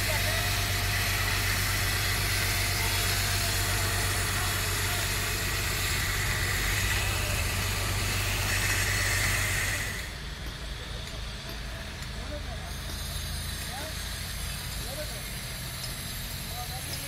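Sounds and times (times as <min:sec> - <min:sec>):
construction machinery engines: 0:00.0 - 0:17.0.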